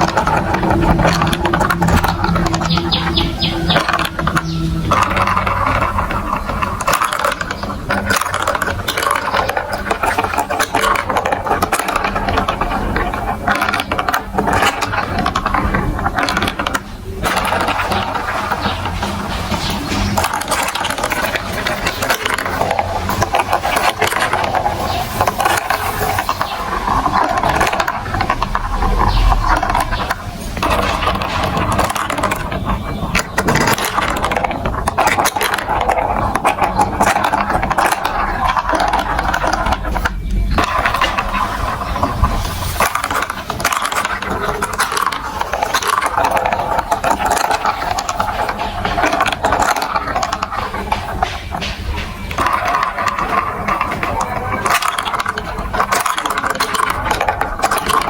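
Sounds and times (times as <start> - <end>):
marbles rolling and clattering: 0.0 - 58.0.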